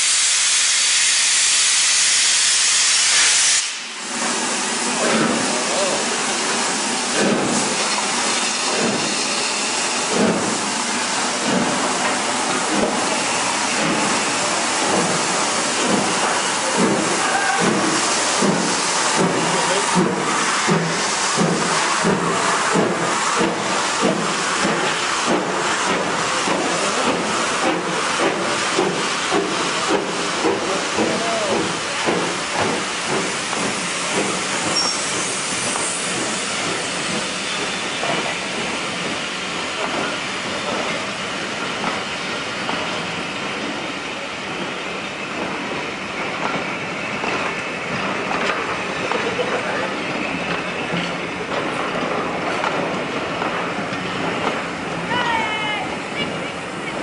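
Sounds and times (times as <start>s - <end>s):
steam hissing: 0.0s - 57.0s
steam locomotive exhaust beats: 0.0s - 57.0s.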